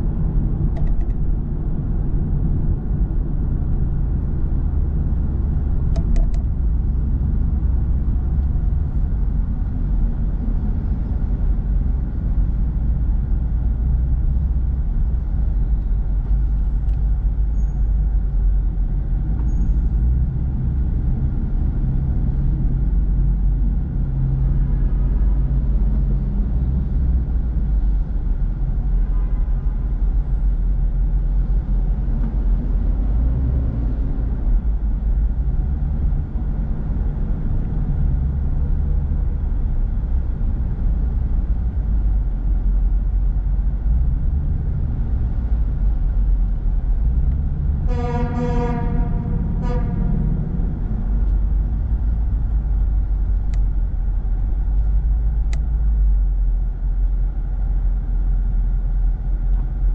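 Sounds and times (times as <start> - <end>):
road and engine noise in car: 0.0 - 59.9.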